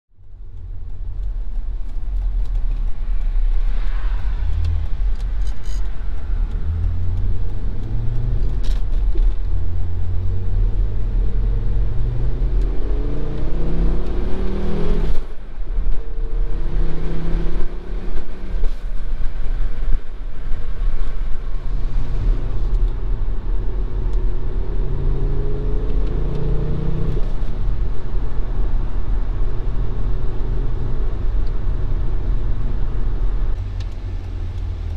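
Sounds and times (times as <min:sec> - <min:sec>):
low rumble: 0:00.2 - 0:34.9
car engine accelerating: 0:01.1 - 0:20.0, 0:21.0 - 0:34.9.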